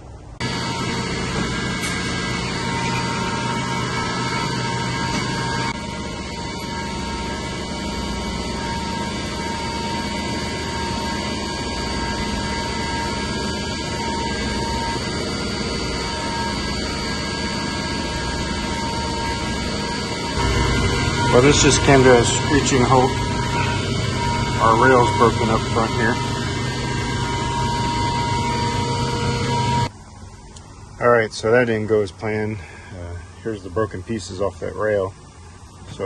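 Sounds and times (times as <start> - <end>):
high whine: 0.0 - 36.0
machinery drone: 0.0 - 36.0.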